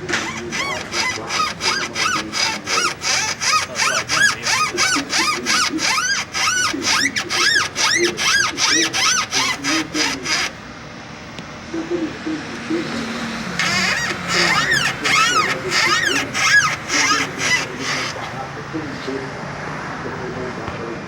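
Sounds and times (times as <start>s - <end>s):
car suspension squeaking: 0.0s - 10.6s, 12.6s - 19.2s.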